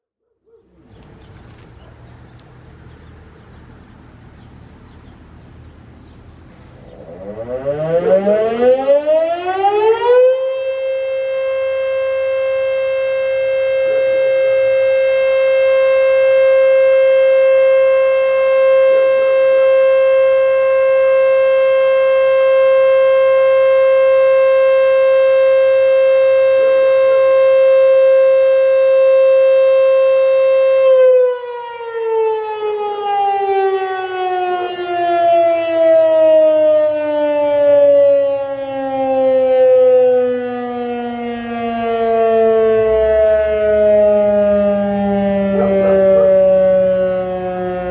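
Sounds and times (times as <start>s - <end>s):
warning siren: 5.9s - 47.9s.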